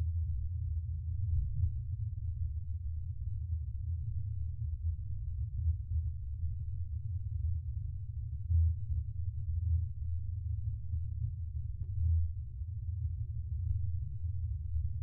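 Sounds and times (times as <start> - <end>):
deep low spaceship hum: 0.0 - 15.0.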